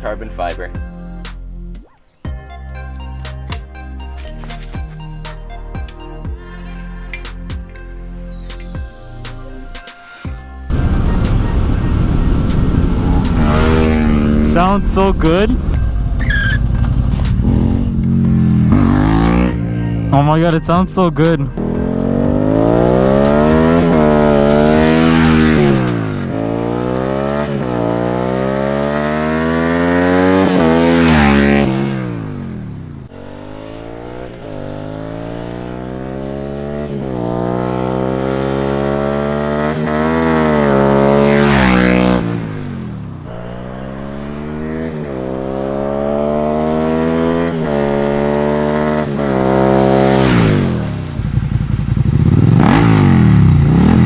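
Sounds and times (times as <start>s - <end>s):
motorcycle accelerating through gears: 10.6s - 54.0s.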